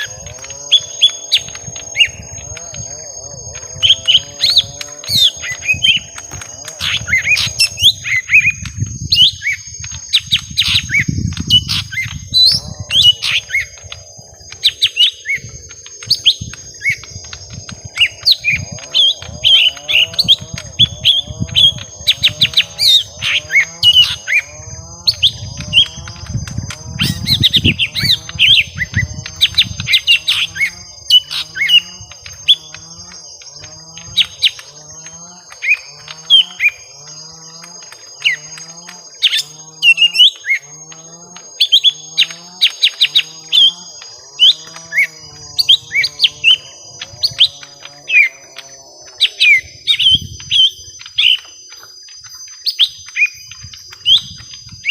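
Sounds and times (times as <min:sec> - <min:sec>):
birds chirping and chattering: 0:00.0 - 0:54.9
lower bird call: 0:00.0 - 0:54.9.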